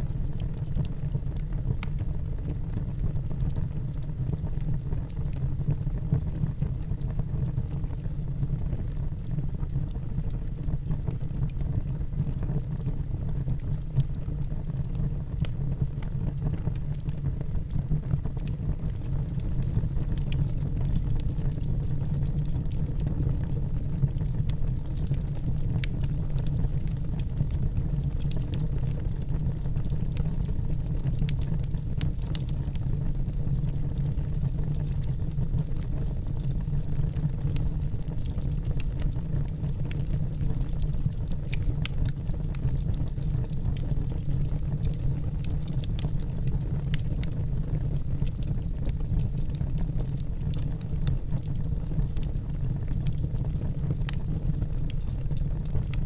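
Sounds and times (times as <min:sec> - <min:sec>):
low fire rumble: 0:00.0 - 0:56.0
wood fire crackling and popping: 0:00.1 - 0:56.0.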